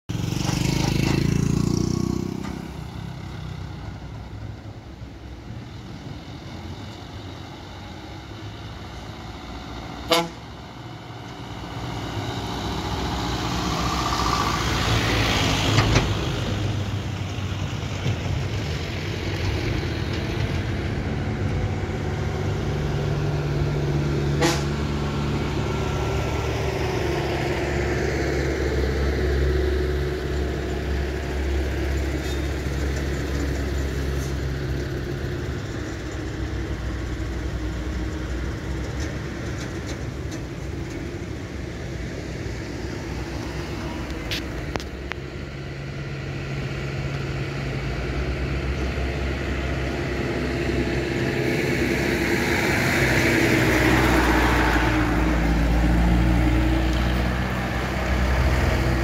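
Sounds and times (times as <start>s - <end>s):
lorry diesel engine droning: 0.1s - 59.0s.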